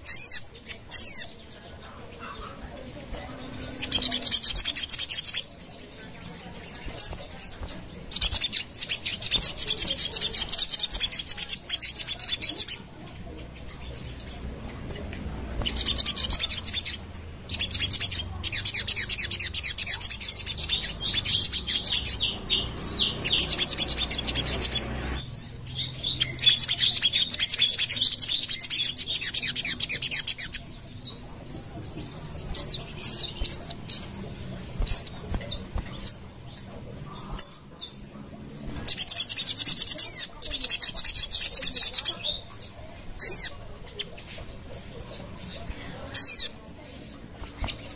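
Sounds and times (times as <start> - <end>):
bird chirps: 0.0 - 47.9
songbird trilling: 3.3 - 12.9, 15.6 - 44.0, 45.0 - 46.6.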